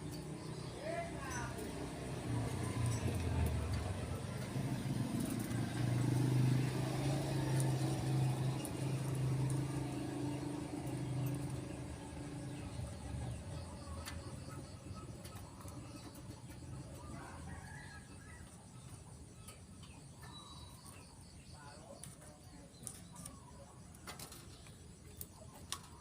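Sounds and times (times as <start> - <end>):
vehicle engine running: 0.0 - 23.9.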